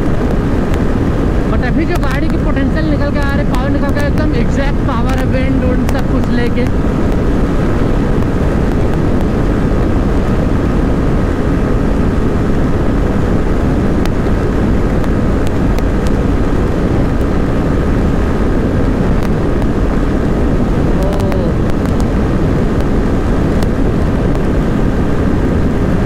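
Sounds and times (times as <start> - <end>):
motorcycle engine at full throttle: 0.0 - 26.0
wind rush on microphone: 0.0 - 26.0.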